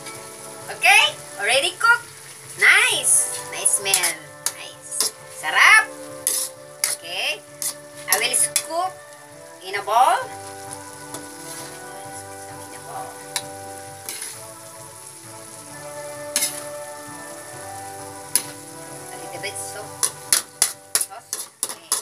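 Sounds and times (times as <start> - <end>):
background music with held notes: 0.0 - 22.0
food sizzling in pan: 0.0 - 22.0
metal spatula scraping wok: 2.2 - 22.0.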